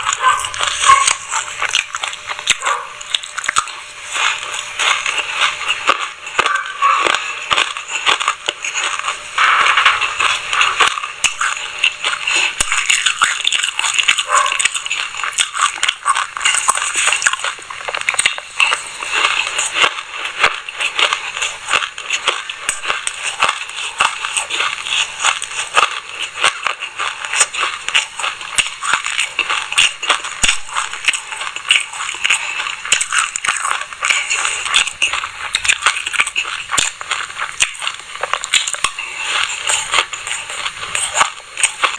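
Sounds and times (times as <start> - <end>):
chewing crunchy seeds: 0.0 - 41.9.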